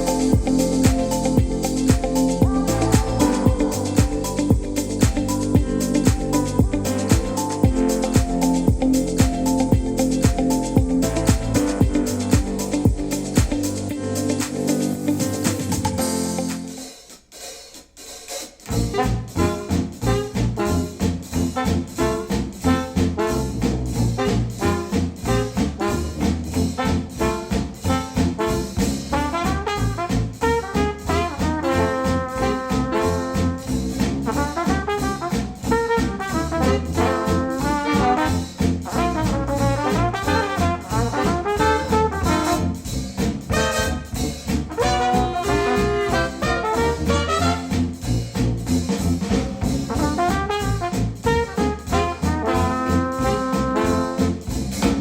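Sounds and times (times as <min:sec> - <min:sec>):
brass-led jazzy music: 0:00.0 - 0:17.1, 0:18.6 - 0:55.0.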